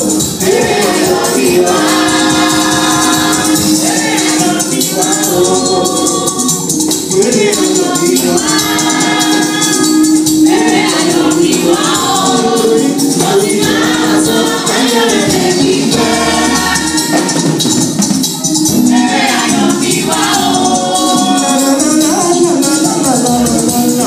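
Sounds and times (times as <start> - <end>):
women's choir singing gospel: 0.0 - 17.8, 18.5 - 24.0
lead singer through microphone: 0.0 - 24.0.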